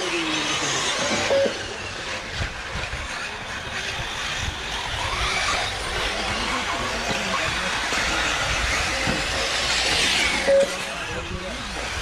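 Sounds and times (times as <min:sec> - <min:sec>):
rc buggies whirring: 0:00.0 - 0:12.0.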